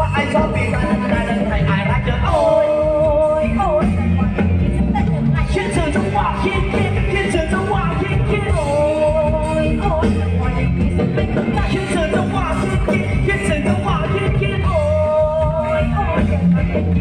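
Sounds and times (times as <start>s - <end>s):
dance music over sound system: 0.0s - 17.0s.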